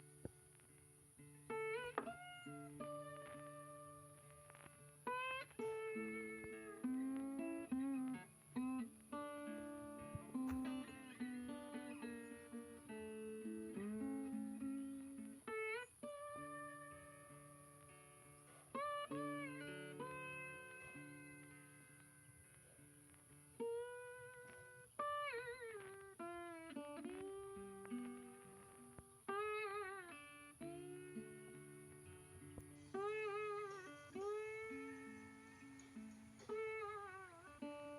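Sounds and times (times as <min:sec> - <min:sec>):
plucked guitar melody: 0:00.0 - 0:37.9.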